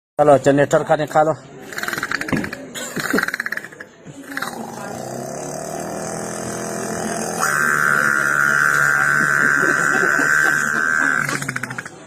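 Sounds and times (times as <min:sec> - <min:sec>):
boy imitating generator engine: 0:01.6 - 0:12.0.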